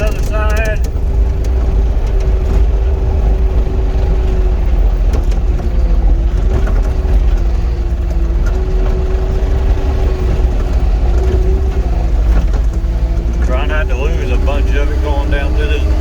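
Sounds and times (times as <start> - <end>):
skid steer diesel engine rumbling: 0.0 - 16.0.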